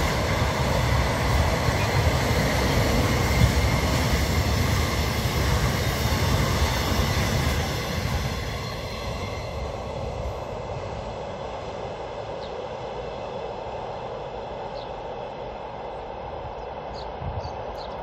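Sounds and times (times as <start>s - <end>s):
freight train rumble: 0.0s - 18.0s.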